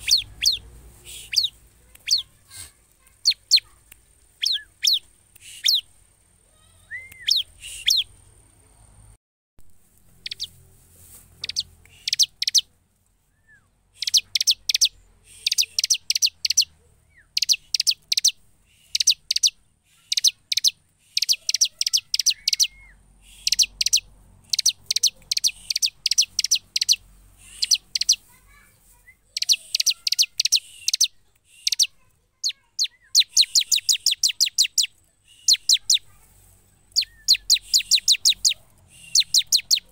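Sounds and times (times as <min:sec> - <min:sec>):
bird singing rapid high chirps: 0:00.0 - 0:02.4, 0:03.0 - 0:06.0, 0:06.6 - 0:08.3, 0:10.1 - 0:10.6, 0:11.4 - 0:12.7, 0:13.4 - 0:39.9.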